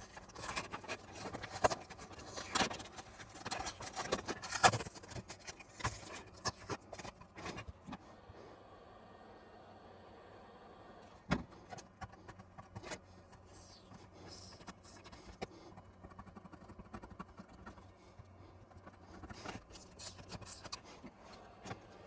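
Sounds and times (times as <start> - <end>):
plastic tool scraping and crinkling: 0.0 - 8.1, 11.4 - 22.0.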